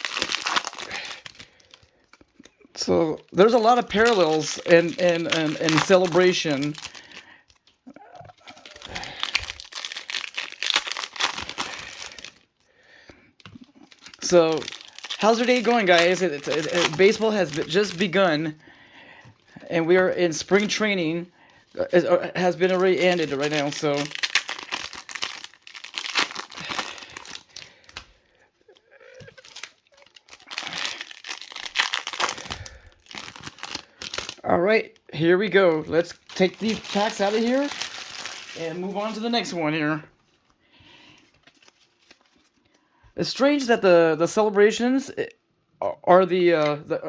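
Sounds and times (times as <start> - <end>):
foil wrappers crinkling: 0.0 - 40.4, 41.1 - 42.8.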